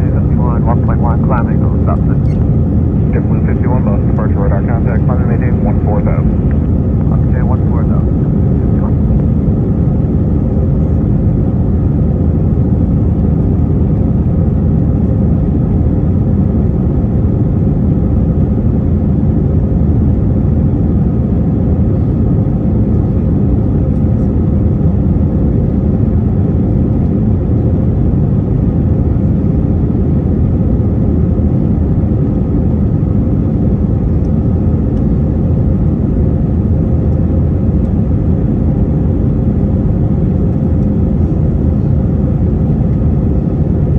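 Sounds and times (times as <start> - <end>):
jet engine cabin rumble: 0.0 - 43.9
steady engine hum: 0.0 - 43.9.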